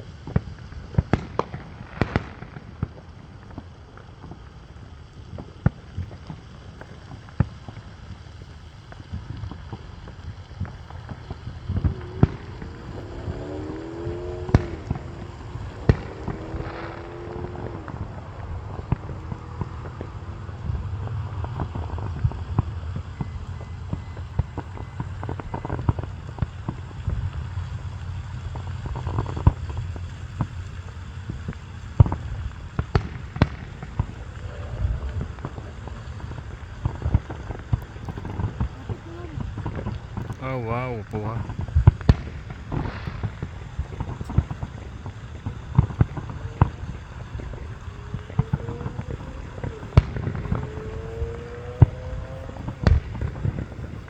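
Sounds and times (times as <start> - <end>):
steady low rumble: 8.4 - 54.0
fireworks bangs: 9.2 - 54.0.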